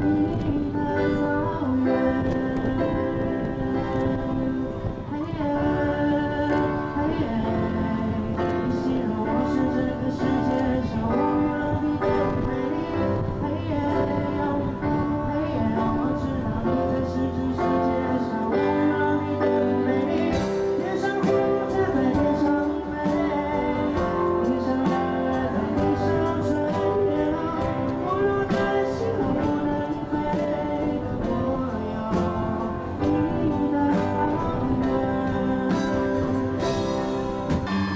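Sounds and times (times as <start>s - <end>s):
keyboard: 0.0s - 37.9s
live pop band: 0.0s - 37.9s
person singing: 0.0s - 37.9s.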